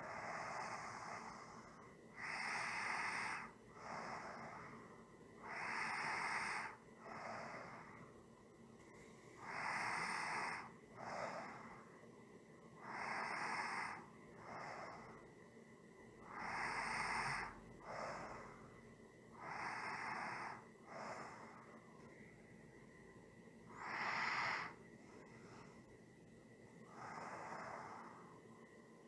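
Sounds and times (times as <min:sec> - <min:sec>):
person breathing slowly: 0:00.0 - 0:08.2, 0:08.8 - 0:12.0, 0:12.8 - 0:15.4, 0:16.2 - 0:22.6, 0:23.7 - 0:26.1, 0:26.7 - 0:28.7.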